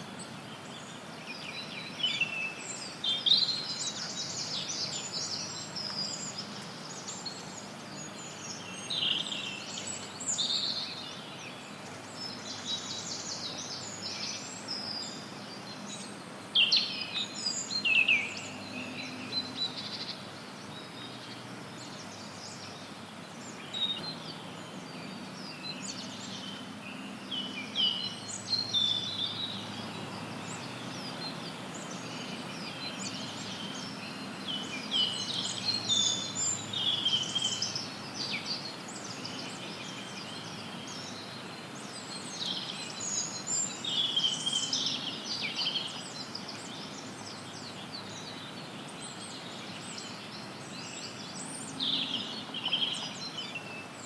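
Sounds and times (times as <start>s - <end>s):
small birds chirping: 0.0s - 54.0s
white noise hiss: 0.0s - 54.0s.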